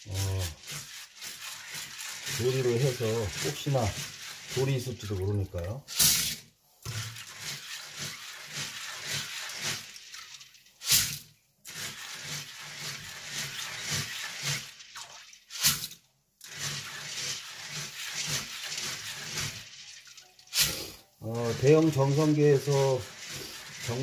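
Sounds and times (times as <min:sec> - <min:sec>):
water swishing in a steel bowl: 0:00.0 - 0:24.0
wet beans splashing into colander: 0:00.0 - 0:24.0.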